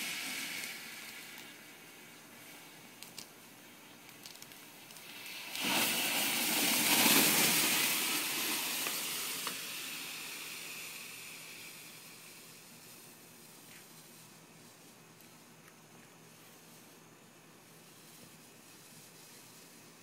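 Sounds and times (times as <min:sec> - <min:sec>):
firework hissing and crackling: 0:00.0 - 0:15.6, 0:16.2 - 0:20.0.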